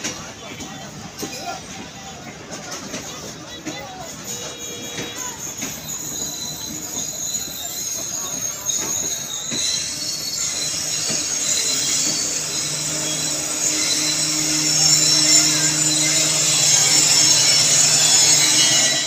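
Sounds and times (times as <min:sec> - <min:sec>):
train wheels squealing: 0:00.6 - 0:19.0.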